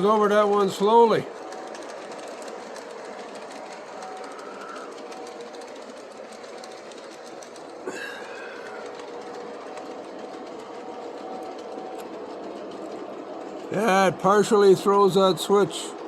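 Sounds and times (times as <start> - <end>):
electric locomotive motor running: 0.0 - 16.0
wheels clicking over rails: 0.0 - 16.0.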